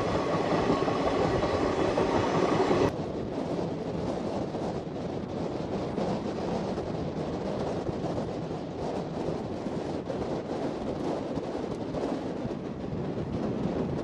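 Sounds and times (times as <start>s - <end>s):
train rumbling on rails: 0.0s - 14.0s
wind buffeting microphone: 0.0s - 14.0s.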